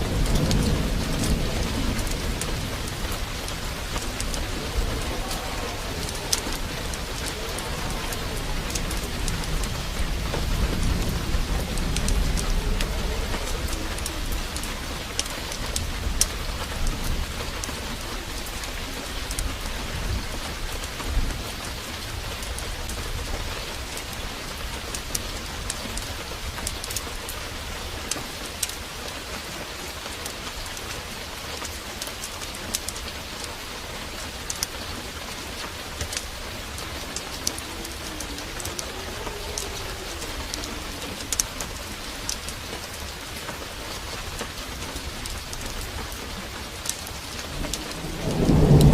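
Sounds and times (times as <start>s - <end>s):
low rumble of thunder: 0.0s - 29.8s, 30.6s - 48.9s
heavy rain pouring: 0.0s - 48.9s
sharp crackles and ticks: 0.0s - 48.9s.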